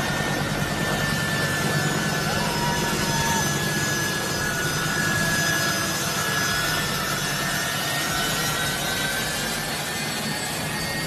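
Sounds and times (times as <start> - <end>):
jet engines rushing and whining: 0.0 - 11.0.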